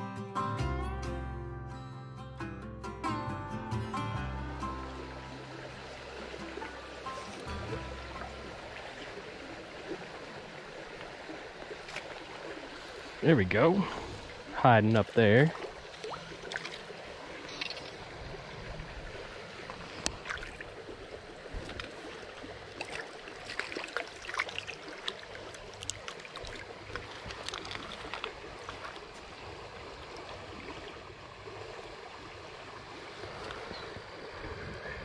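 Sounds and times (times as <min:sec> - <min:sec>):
stream running over gravel: 0:04.3 - 0:34.8
water splashes: 0:04.5 - 0:35.0.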